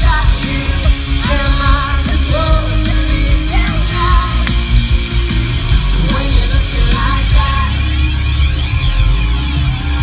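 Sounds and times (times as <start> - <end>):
rock band playing: 0.0 - 10.0.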